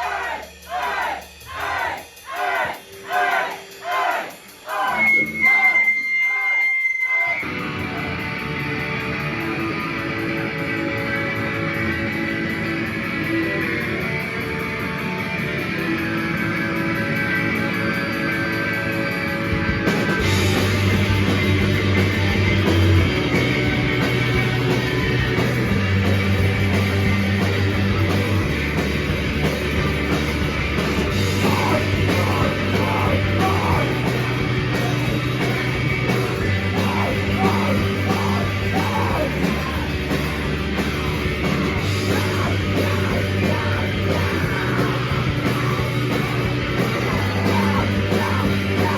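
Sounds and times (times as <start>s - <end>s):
drums and bass: 0.0s - 6.5s, 7.1s - 48.9s.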